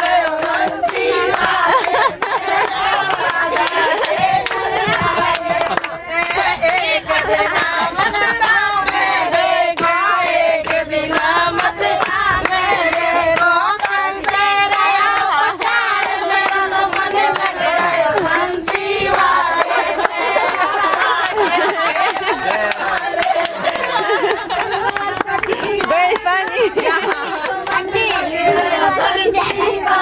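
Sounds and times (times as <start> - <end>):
hand clapping: 0.0 - 6.8, 7.4 - 28.8
women singing together: 0.0 - 30.0.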